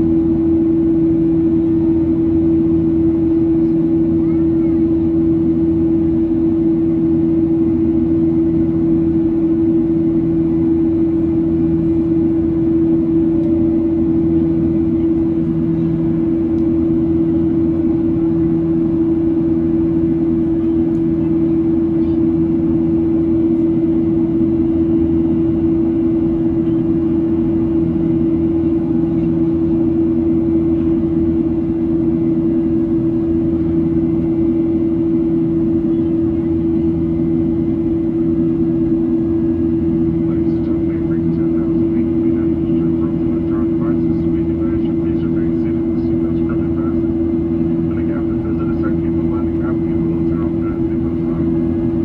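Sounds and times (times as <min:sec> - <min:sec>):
airplane cabin engine drone: 0:00.0 - 0:52.0.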